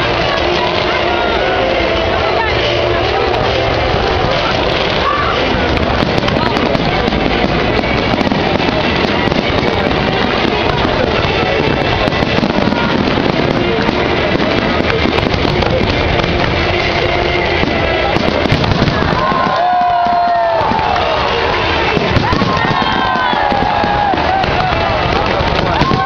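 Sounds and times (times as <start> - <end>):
fireworks crackling: 0.0 - 26.0
music playing: 0.0 - 26.0.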